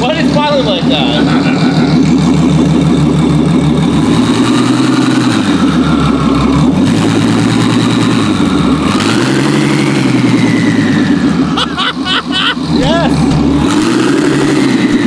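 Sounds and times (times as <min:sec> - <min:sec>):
car engine revving: 0:00.0 - 0:15.0
turbocharger whine: 0:00.0 - 0:15.0.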